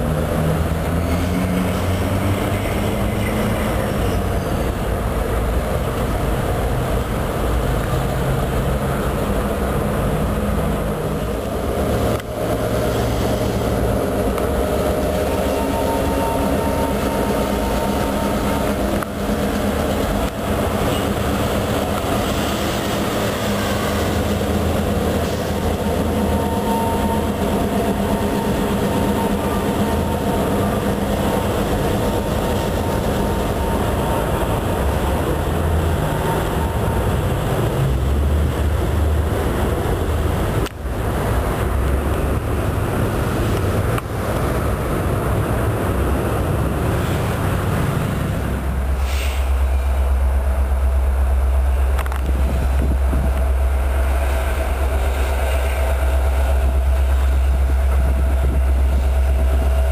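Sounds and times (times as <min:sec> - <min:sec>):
freight train rumbling over rails: 0:00.0 - 0:59.9.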